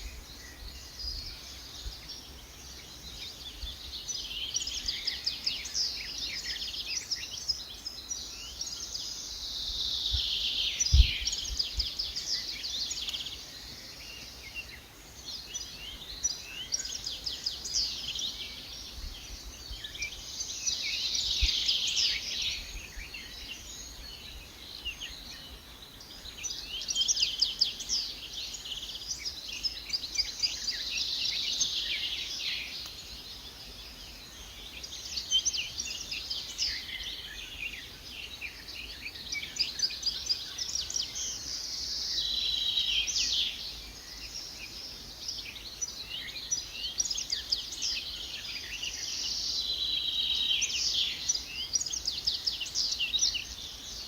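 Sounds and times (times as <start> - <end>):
small birds chirping and twittering: 0.0 - 54.0.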